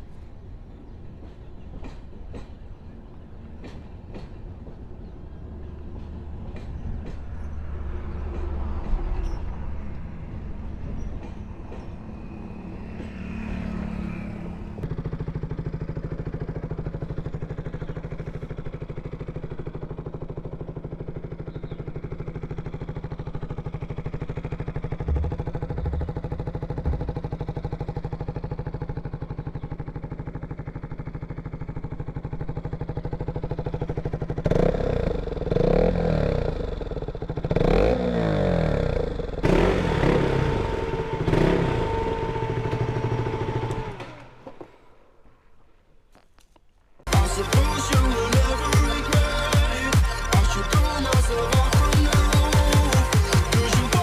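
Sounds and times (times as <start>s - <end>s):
road and wind noise: 0.0s - 47.1s
motorcycle engine: 0.0s - 54.0s.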